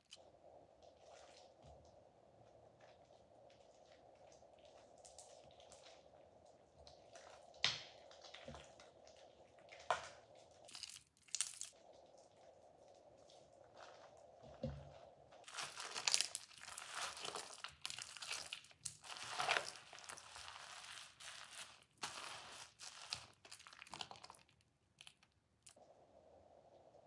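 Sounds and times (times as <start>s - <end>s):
wet soap crackling: 0.0s - 25.9s.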